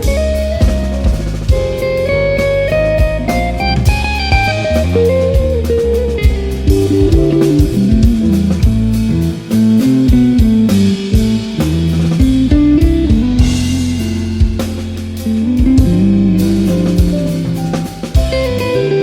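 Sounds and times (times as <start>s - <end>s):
bass: 0.0s - 19.0s
drum kit beat: 0.0s - 19.0s
electric guitar: 0.0s - 19.0s.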